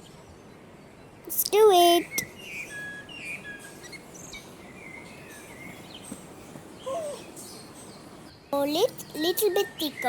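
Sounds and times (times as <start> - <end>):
low steady hiss: 0.0 - 10.0
birds chirping: 1.4 - 10.0.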